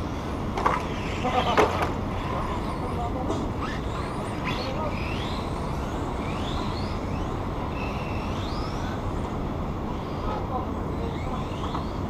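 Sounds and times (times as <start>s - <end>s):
toy car motors whining: 0.0s - 12.0s.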